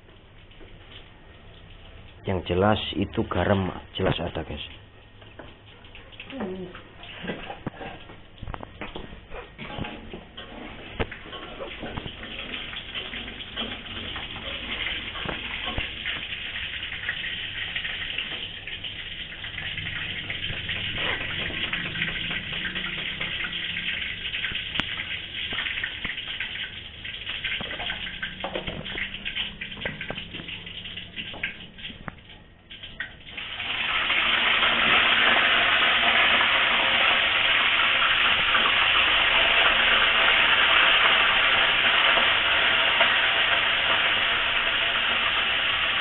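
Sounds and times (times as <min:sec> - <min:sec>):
hot oil sizzling and crackling: 0:04.5 - 0:46.0.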